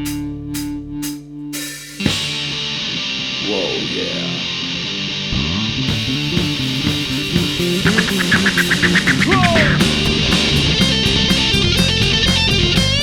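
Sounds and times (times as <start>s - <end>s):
drums: 0.0s - 5.1s, 5.7s - 13.0s
bass guitar: 0.0s - 13.0s
electric guitar bending notes: 0.0s - 13.0s.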